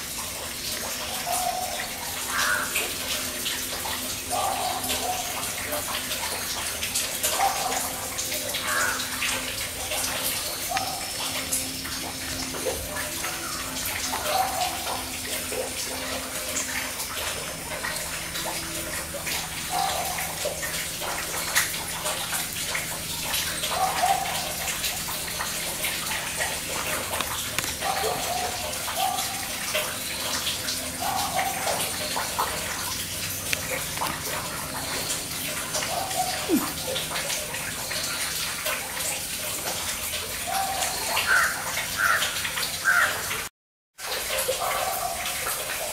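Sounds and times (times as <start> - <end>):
running water hiss: 0.0 - 45.9.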